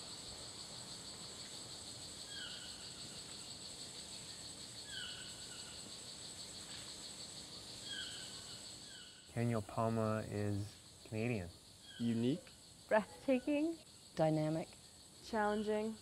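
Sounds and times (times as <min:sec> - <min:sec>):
insect chorus buzzing and trilling: 0:00.0 - 0:16.0.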